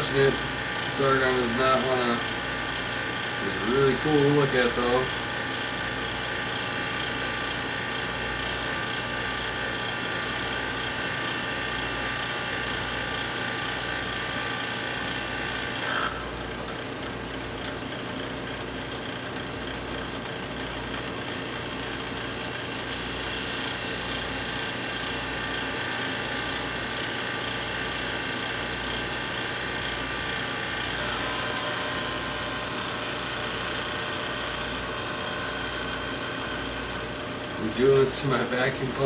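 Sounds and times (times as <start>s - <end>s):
vacuum pump mechanical hum: 0.0s - 39.0s.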